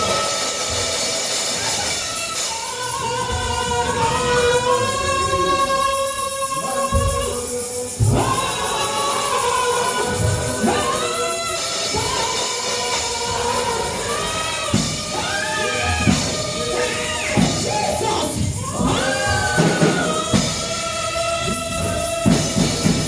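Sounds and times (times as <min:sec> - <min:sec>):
tambourine: 0:00.0 - 0:23.0
voices singing together: 0:00.0 - 0:23.0.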